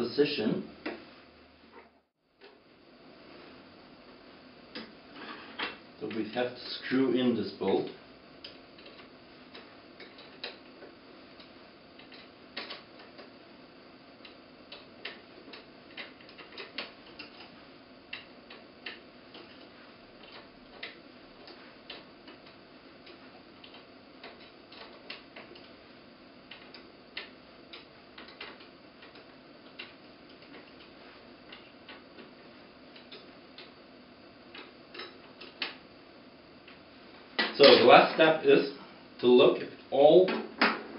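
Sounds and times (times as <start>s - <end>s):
faint room hum: 0.0s - 40.9s.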